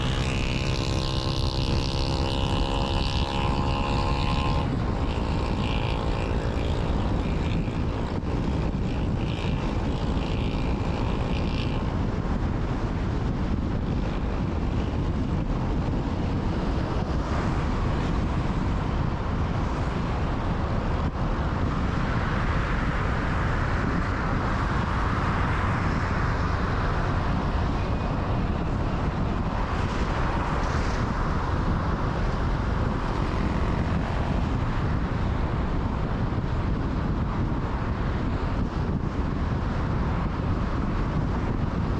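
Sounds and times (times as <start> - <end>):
car engine: 0.0 - 41.9
tyre road noise: 0.0 - 41.9
wind noise: 0.0 - 41.9.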